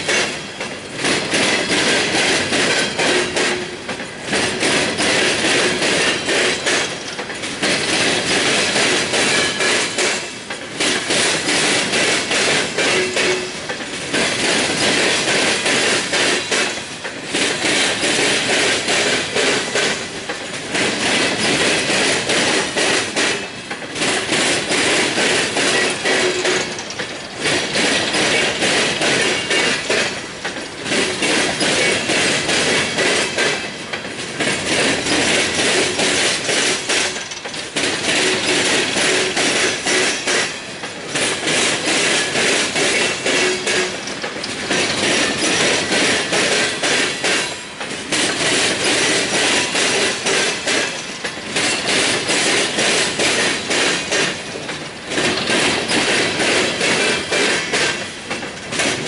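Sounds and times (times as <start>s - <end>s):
freight train wheels clattering: 0.0s - 59.0s.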